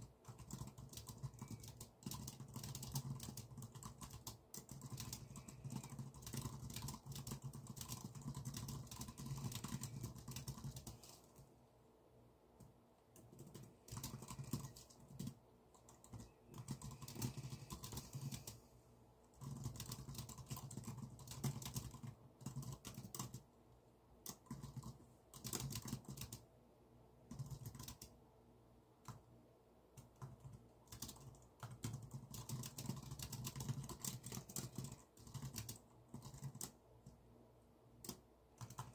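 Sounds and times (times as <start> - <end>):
typing on computer keyboard: 0.0 - 11.4, 12.6 - 18.6, 19.3 - 23.5, 24.2 - 26.5, 27.3 - 28.2, 29.0 - 29.3, 30.0 - 37.2, 38.0 - 38.9.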